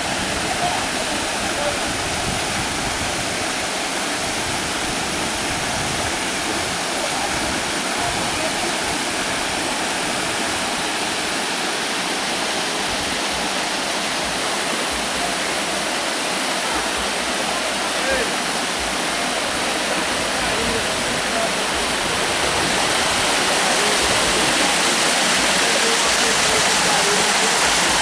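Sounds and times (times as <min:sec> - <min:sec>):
waterfall rushing and splashing: 0:00.0 - 0:28.0.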